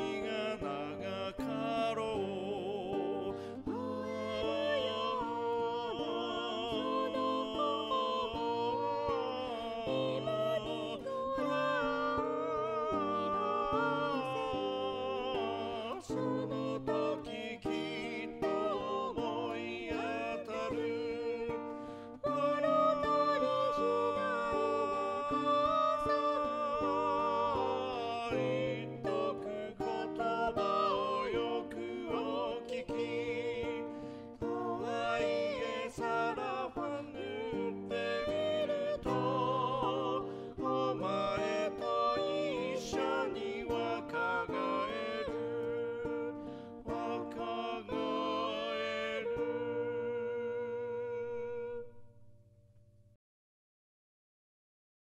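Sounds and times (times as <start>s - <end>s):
plucked acoustic guitar: 0.0s - 50.1s
person singing with vibrato: 0.0s - 52.1s.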